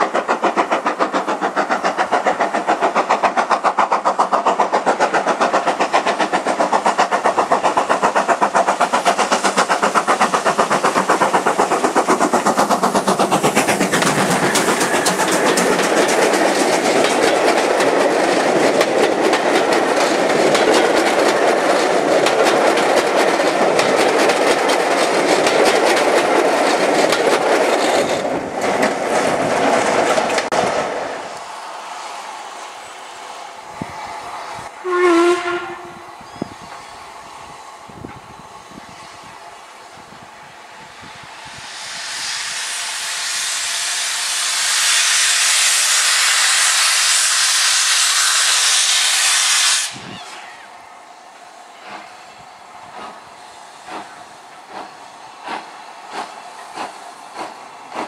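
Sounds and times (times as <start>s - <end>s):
passing train rushing: 0.0s - 58.0s
steam locomotive exhaust beats: 0.0s - 58.0s.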